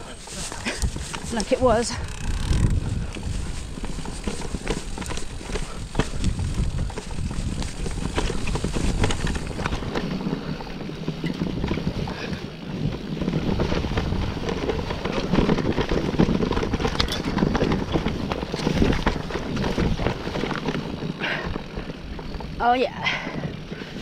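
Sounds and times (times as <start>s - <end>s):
bike clicking and rattling: 0.0s - 24.0s
tyres rolling over dirt: 0.0s - 24.0s
wind rumble on microphone: 0.0s - 24.0s.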